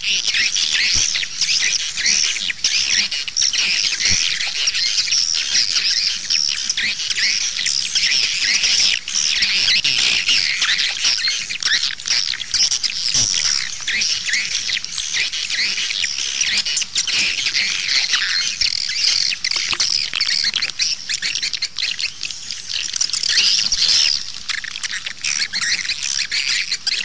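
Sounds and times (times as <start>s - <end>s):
swiftlets twittering chirps: 0.2s - 27.0s.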